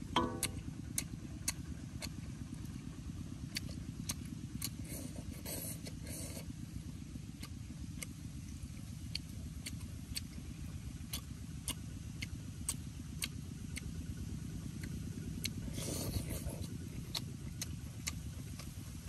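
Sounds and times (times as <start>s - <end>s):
steady low rumble: 0.0s - 19.0s
man chewing and lip smacking: 0.1s - 6.6s, 7.2s - 19.0s.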